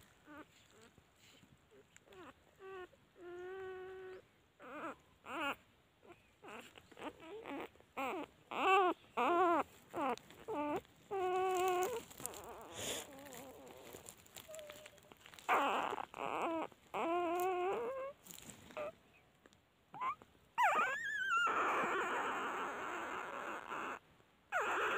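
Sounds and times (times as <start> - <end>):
puppies whining and crying: 0.2 - 19.0, 19.9 - 24.9.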